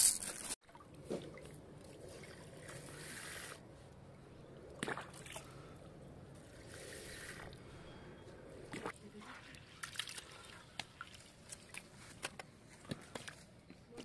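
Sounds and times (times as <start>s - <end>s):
water trickling and sloshing: 0.6s - 14.0s.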